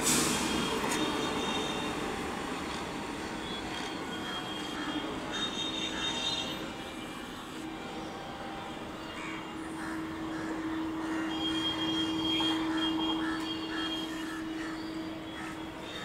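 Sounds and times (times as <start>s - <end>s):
train electrical hum: 0.0s - 16.0s.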